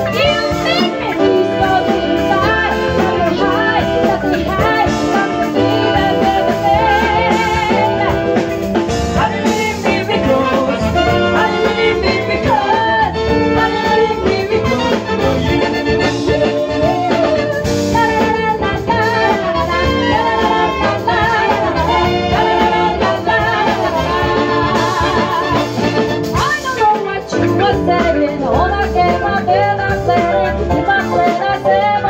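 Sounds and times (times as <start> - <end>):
horn section: 0.0 - 28.0
live band playing: 0.0 - 32.0
woman singing: 0.0 - 32.0.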